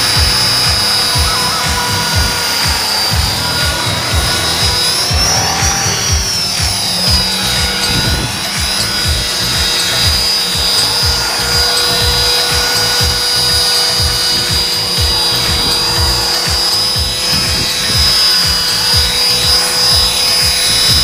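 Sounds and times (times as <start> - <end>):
music with steady beat: 0.0 - 21.0
toy helicopter motor whining: 0.0 - 21.0.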